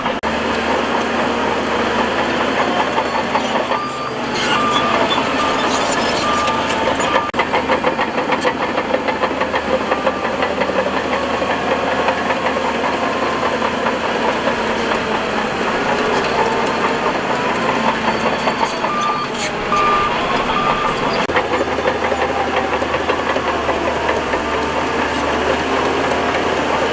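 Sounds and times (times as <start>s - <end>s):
heavy machine engine running: 0.0s - 26.9s.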